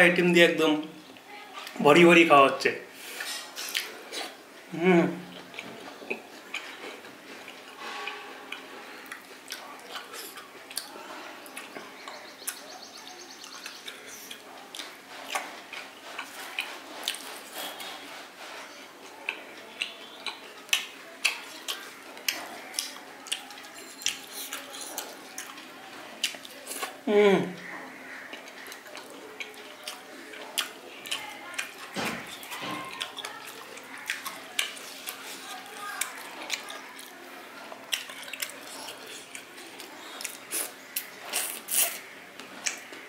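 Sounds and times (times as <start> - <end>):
chewing with mouth clicks: 5.3 - 12.7, 13.4 - 27.0, 28.2 - 43.0.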